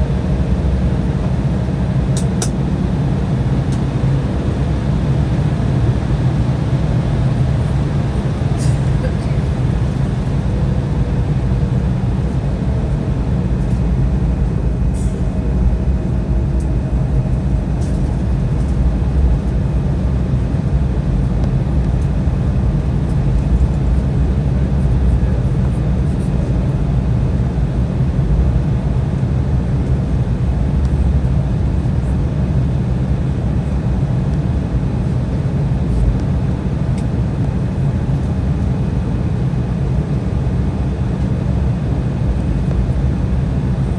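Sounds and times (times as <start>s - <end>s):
aircraft cabin low rumble: 0.0s - 43.9s.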